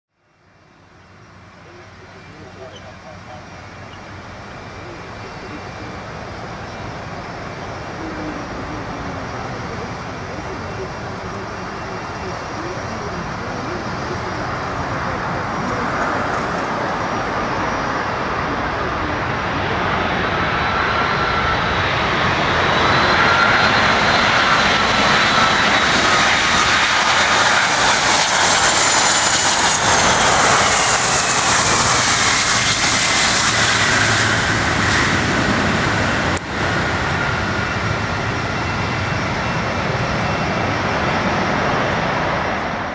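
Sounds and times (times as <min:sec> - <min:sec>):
jet engine whine: 0:00.2 - 0:42.9
jet engines roaring: 0:00.5 - 0:42.9.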